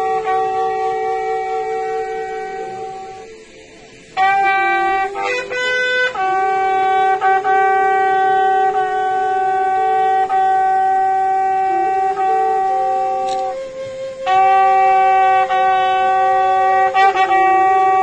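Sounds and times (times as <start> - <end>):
bugle call: 0.0 - 3.5, 4.1 - 18.0.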